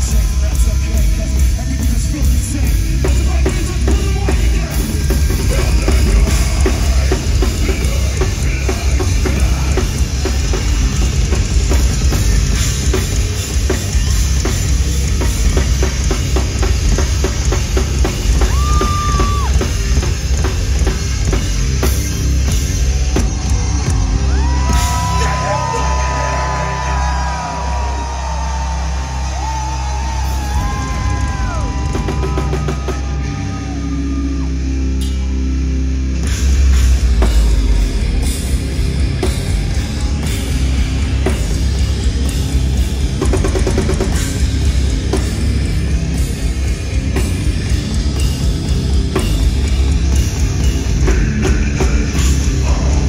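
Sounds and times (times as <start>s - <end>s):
metal band playing live: 0.0s - 53.0s.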